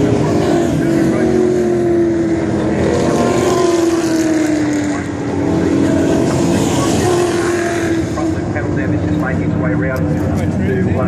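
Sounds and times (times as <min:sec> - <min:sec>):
race cars passing at speed: 0:00.0 - 0:11.0.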